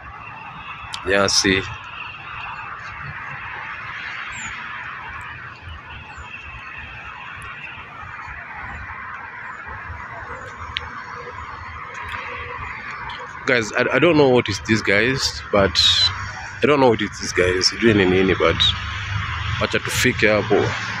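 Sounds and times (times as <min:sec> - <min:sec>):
chorus of bird calls: 0:00.0 - 0:21.0.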